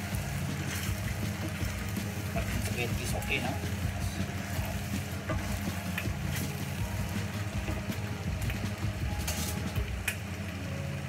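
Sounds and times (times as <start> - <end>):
utensils stirring spaghetti in pot: 0.0 - 9.8
utensils scraping and knocking pot: 0.4 - 9.8.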